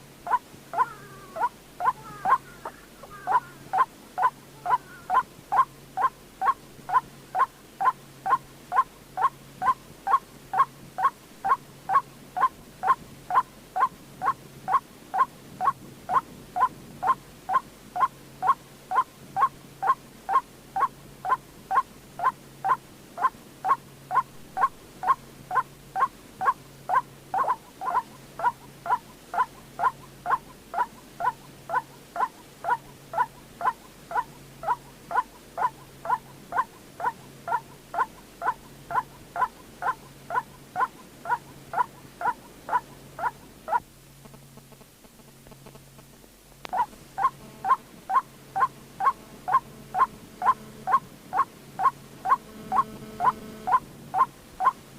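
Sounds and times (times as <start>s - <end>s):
waterhen calling: 0.2s - 43.8s, 46.7s - 54.8s.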